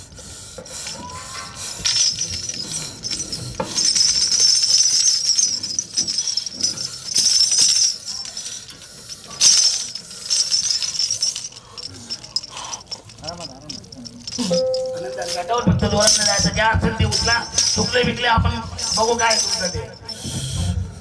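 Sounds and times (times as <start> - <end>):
metallic jingling and rattling: 0.8 - 20.6.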